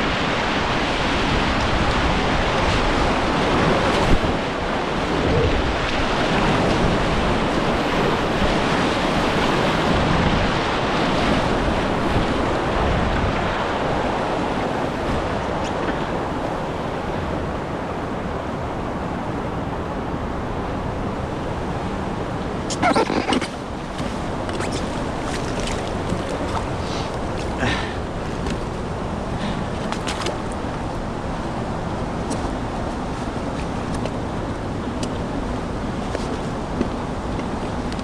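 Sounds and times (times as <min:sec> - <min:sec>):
river water rushing: 0:00.0 - 0:38.0
wind noise on microphone: 0:00.0 - 0:38.0.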